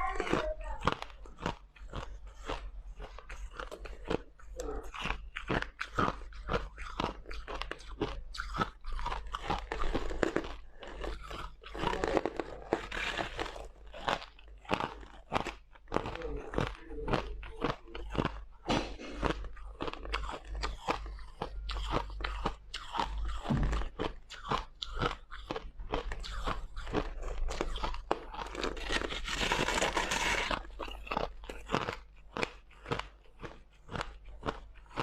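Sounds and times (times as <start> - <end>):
chewing crushed ice: 0.0 - 35.0.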